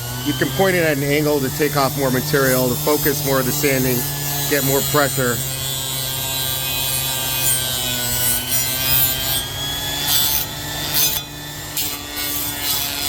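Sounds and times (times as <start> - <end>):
orbital sander motor hum: 0.0 - 13.0
sander grinding steel: 0.0 - 13.0.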